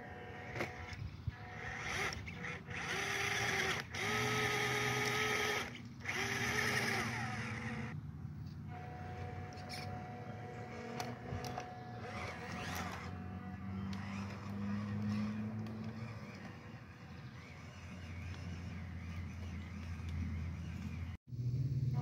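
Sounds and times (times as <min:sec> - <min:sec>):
rc truck electric motor: 0:00.0 - 0:08.0, 0:08.7 - 0:21.2.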